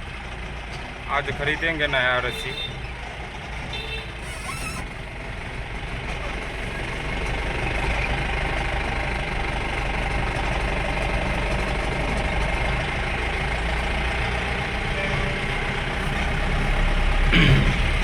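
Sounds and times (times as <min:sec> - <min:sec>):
vehicle engine running: 0:00.0 - 0:02.2, 0:02.8 - 0:18.0
road noise: 0:00.0 - 0:18.0.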